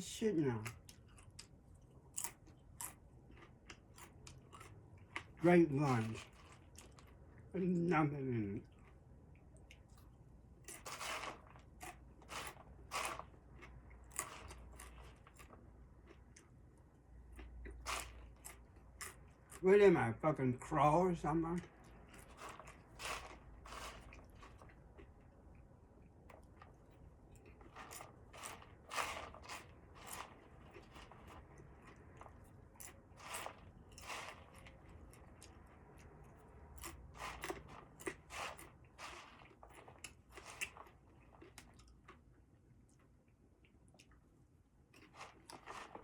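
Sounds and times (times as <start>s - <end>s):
person chewing crunchy food: 0.6s - 7.4s, 8.6s - 19.6s, 21.6s - 44.2s, 44.9s - 46.0s.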